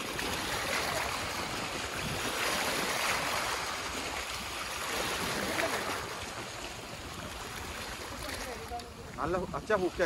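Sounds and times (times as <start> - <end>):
sea water lapping on rocks: 0.0 - 10.0
wind noise on microphone: 0.0 - 10.0.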